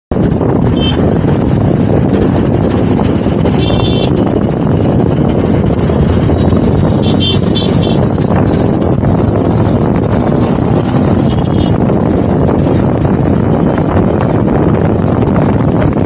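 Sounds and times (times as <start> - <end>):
motorcycle engine running: 0.1 - 16.0
tyre and road noise: 0.1 - 16.0
wind buffeting microphone: 0.1 - 16.0.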